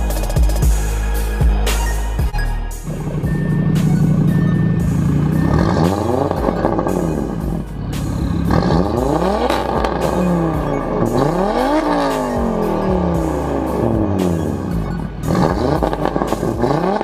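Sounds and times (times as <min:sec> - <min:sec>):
car engine revving: 0:02.8 - 0:17.0.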